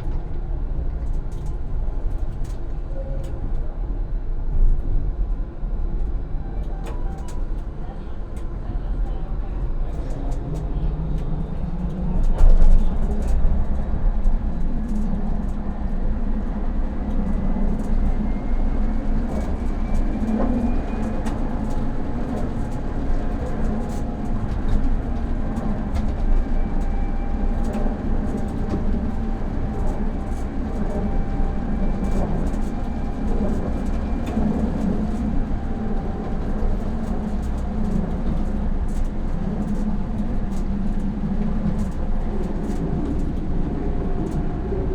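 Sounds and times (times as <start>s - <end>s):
tram wheels rumbling on rails: 0.0s - 44.9s.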